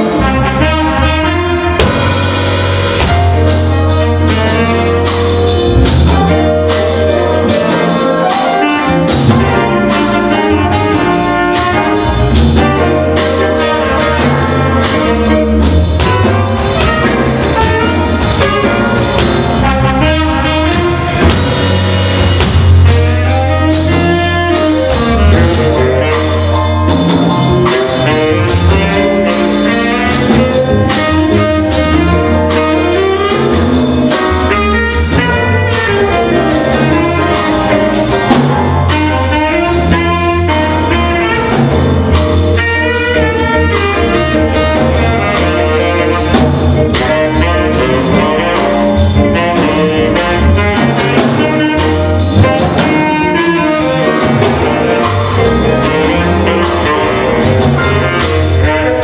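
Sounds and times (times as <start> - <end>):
busy bass line: 0.0 - 59.0
jazz combo playing: 0.0 - 59.0
saxophones: 0.0 - 59.0
trumpet: 0.0 - 59.0.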